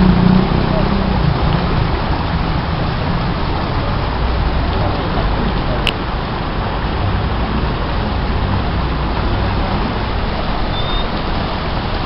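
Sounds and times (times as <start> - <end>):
water rushing over spillway: 0.0 - 12.0.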